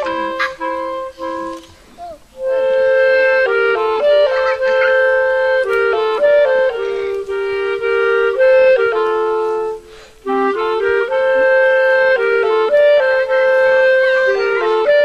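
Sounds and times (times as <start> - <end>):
folk woodwind melody: 0.0 - 15.0.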